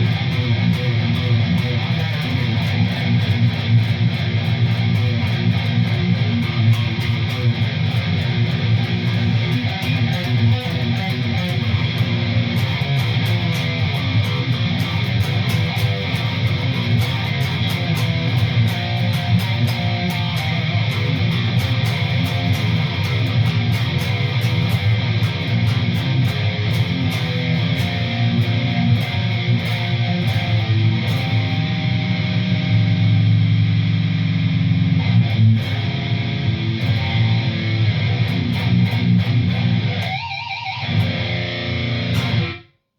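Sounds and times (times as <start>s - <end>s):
distorted electric guitar riffing: 0.0s - 42.7s.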